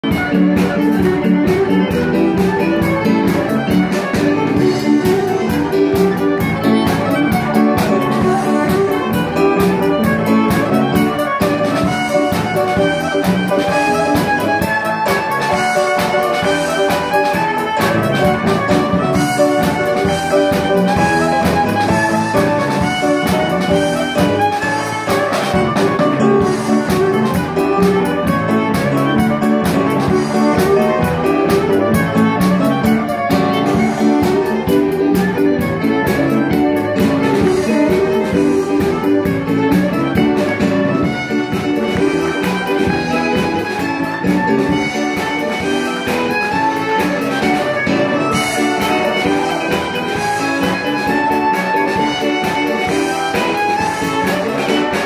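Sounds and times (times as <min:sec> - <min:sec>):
folk dance band playing: 0:00.0 - 0:55.0.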